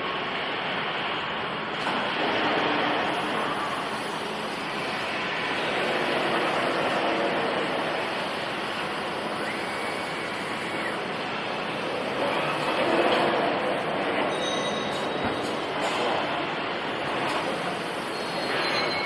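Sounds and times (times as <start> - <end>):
plasma torch cutting metal: 1.8 - 19.0.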